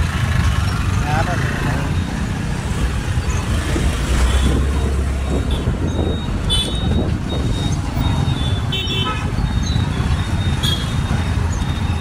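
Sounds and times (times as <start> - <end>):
road traffic engines: 0.0 - 12.0.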